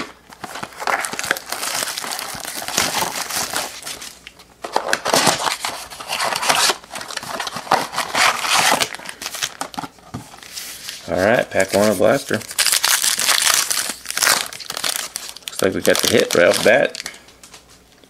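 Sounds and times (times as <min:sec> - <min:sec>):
plastic wrapping crinkling and tearing: 0:00.0 - 0:17.8.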